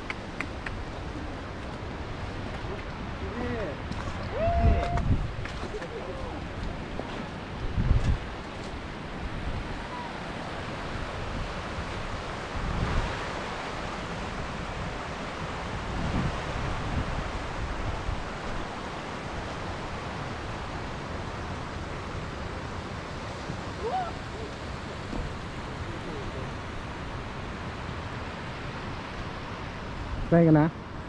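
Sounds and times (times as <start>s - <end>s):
wind buffeting microphone: 0.0s - 30.4s
mountain stream rushing: 0.0s - 31.0s.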